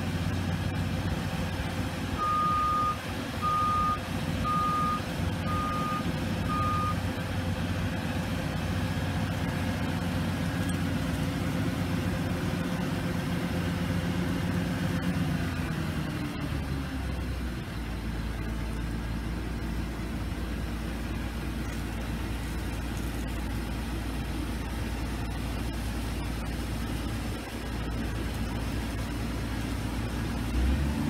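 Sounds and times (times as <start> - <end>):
combine harvester engine running: 0.0 - 31.0.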